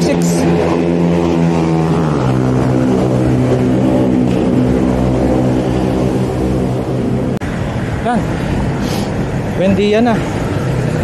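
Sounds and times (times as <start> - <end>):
low rumble: 0.0 - 11.0
vehicle engine droning: 0.0 - 11.0.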